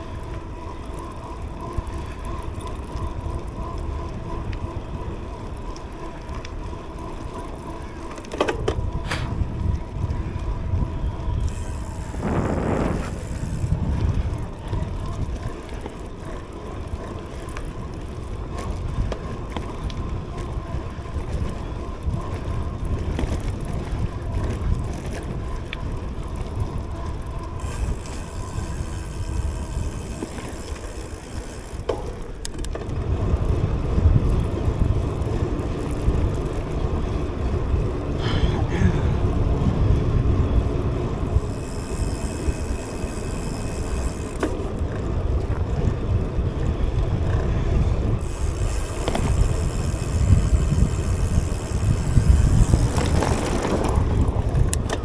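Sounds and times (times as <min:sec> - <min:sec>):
bike rattles and clicks: 0:00.0 - 0:55.0
bike tyre rumble on pavement: 0:00.0 - 0:55.0.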